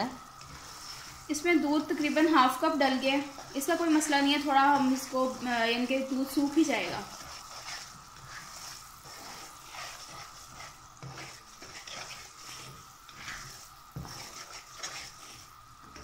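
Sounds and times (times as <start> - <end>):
food bubbling and sizzling in a pan: 0.0 - 16.0
spatula stirring in a pan: 0.0 - 16.0.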